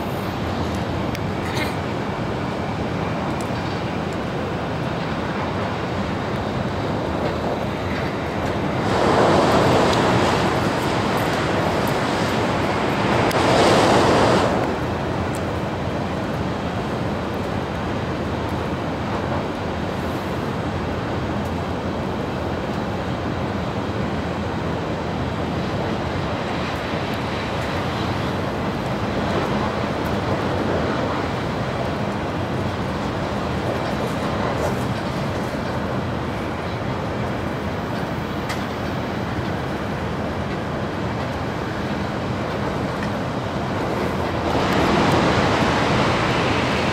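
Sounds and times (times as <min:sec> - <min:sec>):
train running inside cabin: 0:00.0 - 0:46.9.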